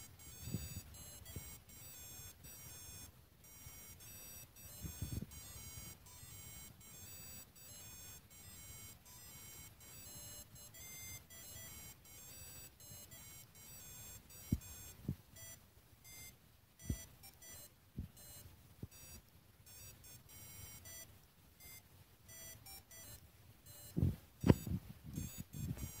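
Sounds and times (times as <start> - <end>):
short electronic beeps: 0.1 - 21.0, 21.6 - 26.0.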